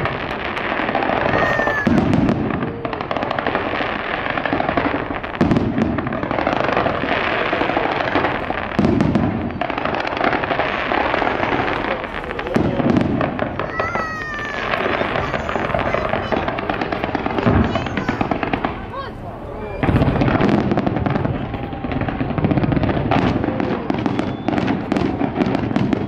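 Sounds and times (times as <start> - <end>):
deep fireworks booms: 0.0 - 26.0
fireworks crackling: 0.0 - 26.0.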